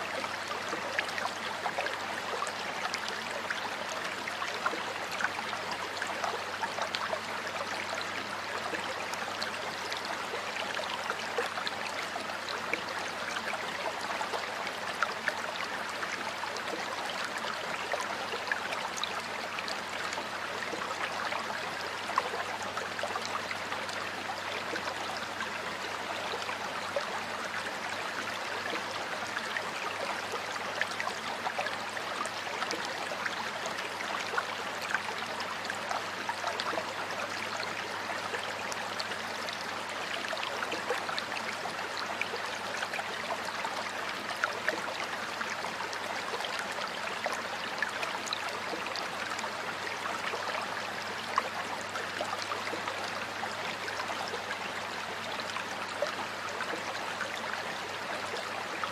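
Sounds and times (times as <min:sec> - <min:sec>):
stream water flowing and splashing: 0:00.0 - 0:58.9.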